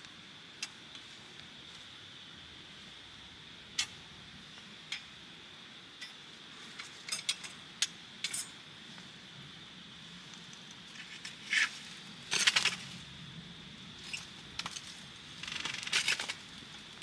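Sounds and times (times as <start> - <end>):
faint high-pitched hum: 0.0 - 17.0.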